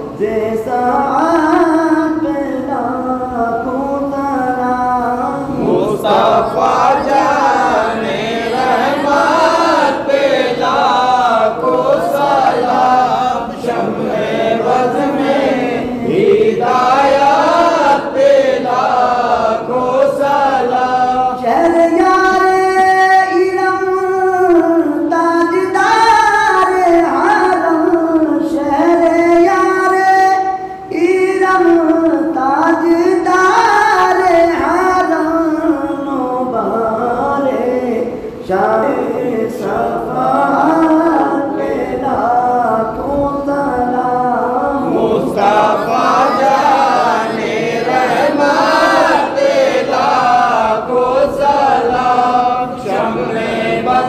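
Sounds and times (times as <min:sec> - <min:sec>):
man singing devotional song: 0:00.0 - 0:54.0.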